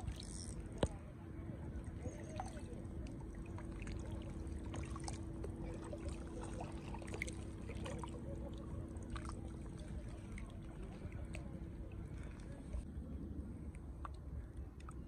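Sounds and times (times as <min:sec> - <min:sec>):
water splashing and dribbling: 0:00.0 - 0:12.9.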